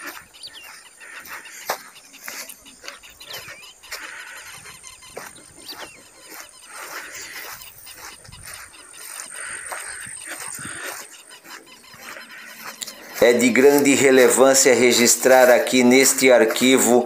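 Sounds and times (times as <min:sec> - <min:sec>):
bird chirps: 0:00.0 - 0:17.0
footsteps crunching on dirt: 0:00.0 - 0:17.0.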